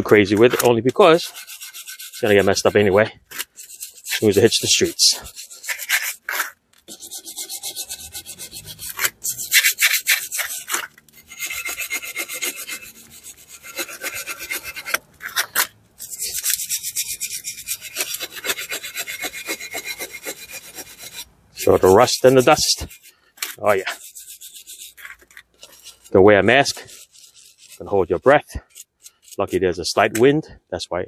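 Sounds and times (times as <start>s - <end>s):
wire brush scrubbing metal: 0.0s - 30.4s.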